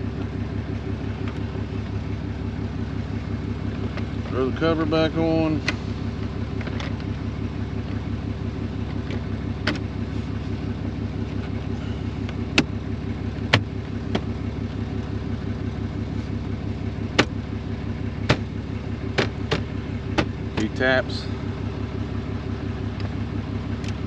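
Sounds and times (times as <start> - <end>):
pickup engine idling: 0.0 - 24.0.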